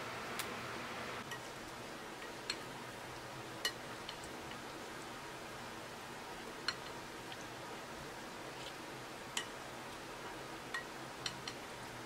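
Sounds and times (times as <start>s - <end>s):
steady low hiss: 0.0s - 12.0s
wooden spatula stirring tomatoes: 1.2s - 12.0s.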